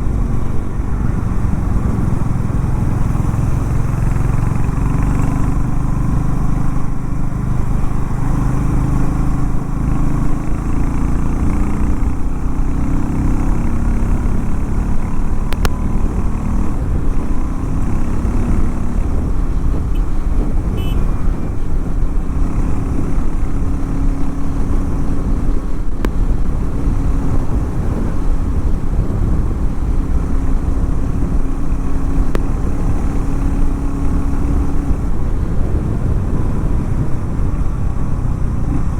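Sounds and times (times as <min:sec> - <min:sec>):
motorcycle engine and exhaust running: 0:00.0 - 0:38.9.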